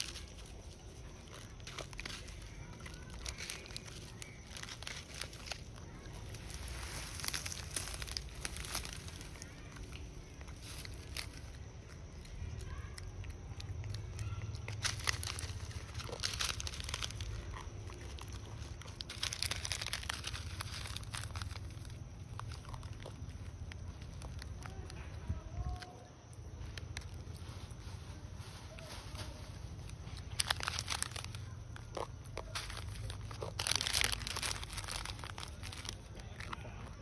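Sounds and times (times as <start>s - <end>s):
monkey chewing: 0.0s - 25.0s, 29.9s - 37.0s
plastic wrapper crinkling: 0.0s - 37.0s.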